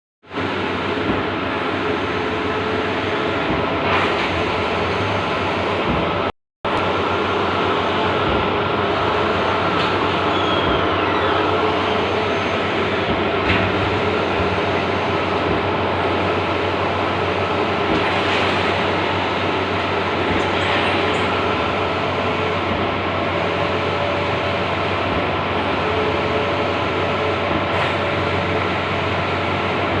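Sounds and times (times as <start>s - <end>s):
printing machine whirring: 0.3s - 30.0s.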